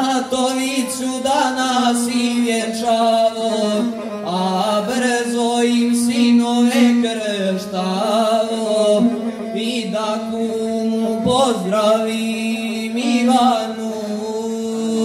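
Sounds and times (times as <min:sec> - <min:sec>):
bowed one-string fiddle: 0:00.0 - 0:15.0
man chanting into a microphone: 0:00.0 - 0:15.0.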